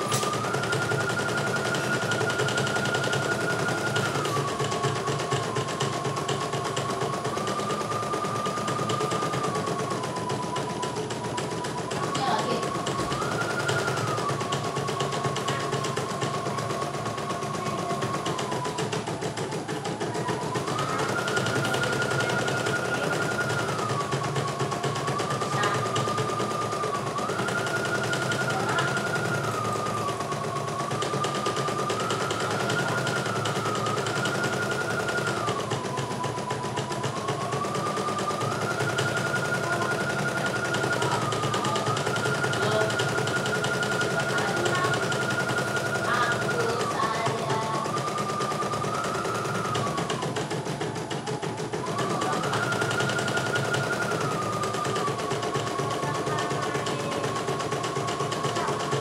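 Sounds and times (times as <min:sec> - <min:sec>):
motor whine: 0:00.0 - 0:59.0.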